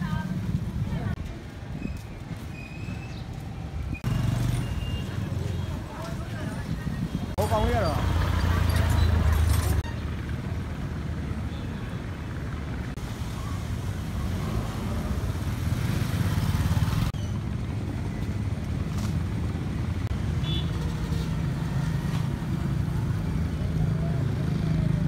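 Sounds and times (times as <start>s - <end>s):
motorbikes: 0.0s - 25.0s
street traffic rumble: 0.0s - 25.0s.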